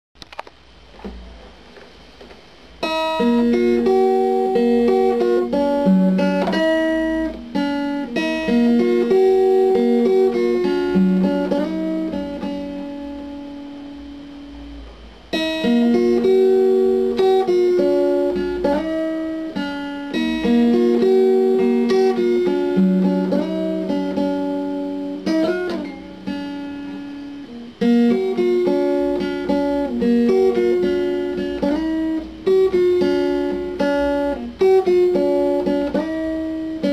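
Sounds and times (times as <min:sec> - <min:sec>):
instrumental guitar music: 0:00.2 - 0:36.9.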